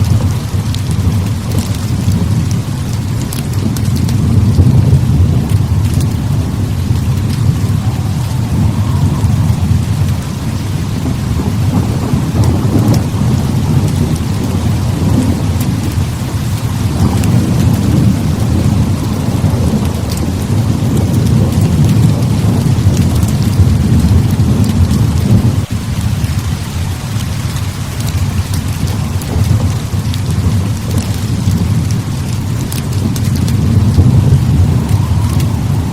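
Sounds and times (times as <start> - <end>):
heavy rain falling: 0.0 - 35.9
thunder rumbling: 0.0 - 35.9.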